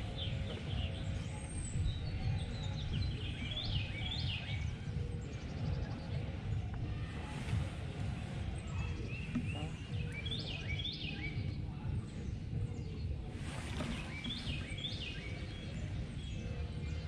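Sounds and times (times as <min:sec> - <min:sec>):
low outdoor rumble: 0:00.0 - 0:17.0
songbird chirping: 0:00.0 - 0:17.0.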